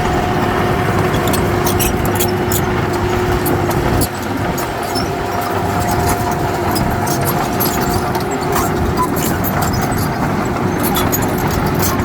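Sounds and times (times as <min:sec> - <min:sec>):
diesel earthmoving machine running: 0:00.0 - 0:12.0
steady machine whine: 0:00.0 - 0:12.0
light clicks and clatter: 0:01.0 - 0:12.0.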